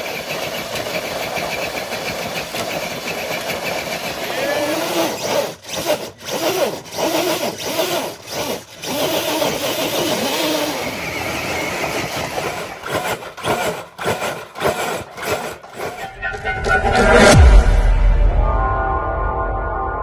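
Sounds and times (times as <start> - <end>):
electric motors of toy trucks whining: 0.0 - 16.2.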